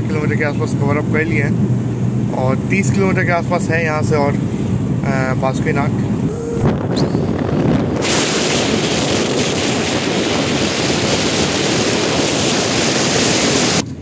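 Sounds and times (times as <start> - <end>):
car road and engine noise: 0.0 - 14.0
rush of wind and tyre noise: 0.0 - 14.0.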